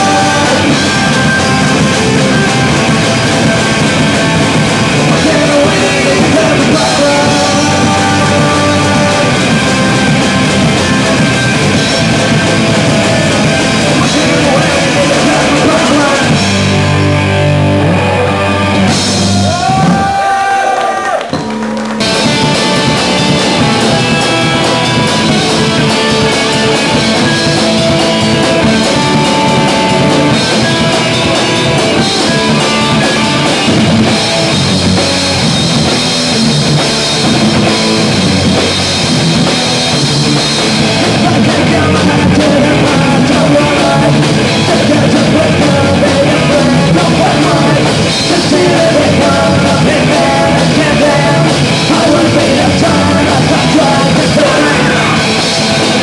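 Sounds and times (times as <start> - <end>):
punk rock band playing live: 0.0 - 56.0.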